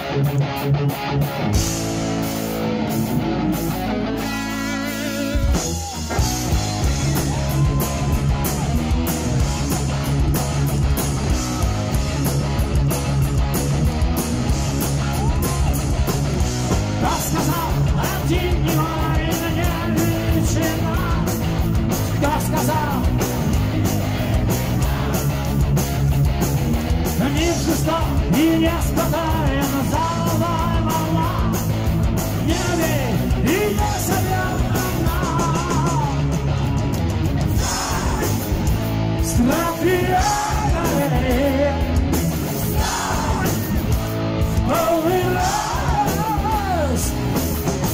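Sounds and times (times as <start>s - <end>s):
heavy metal band playing live: 0.0s - 47.9s.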